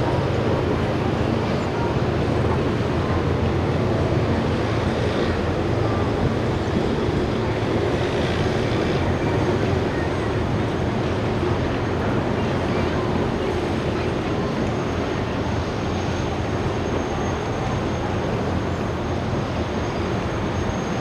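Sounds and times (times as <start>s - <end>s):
turbine propulsion drone: 0.0s - 21.0s.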